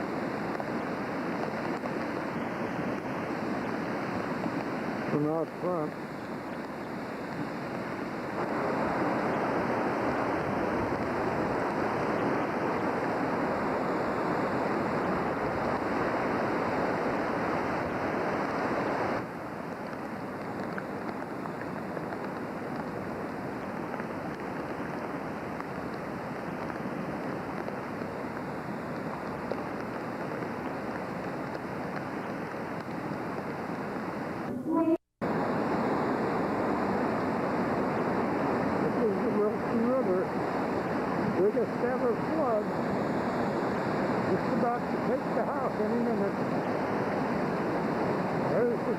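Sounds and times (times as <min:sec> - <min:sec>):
rushing floodwater: 0:00.0 - 0:48.9.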